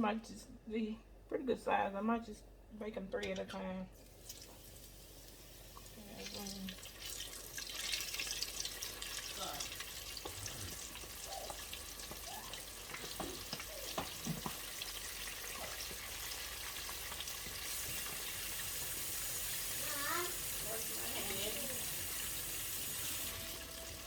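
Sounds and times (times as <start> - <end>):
chicken wings frying in oil: 4.0 - 24.0.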